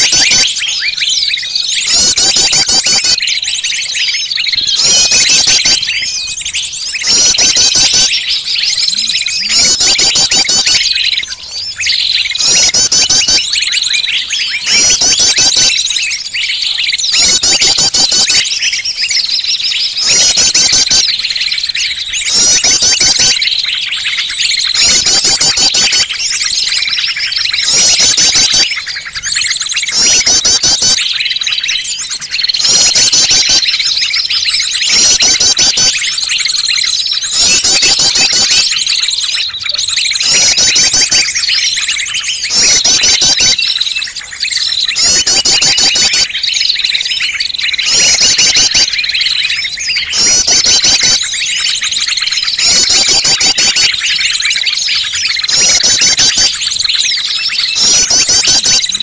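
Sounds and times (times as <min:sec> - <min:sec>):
small songbirds chirping and trilling: 0:00.0 - 0:59.0.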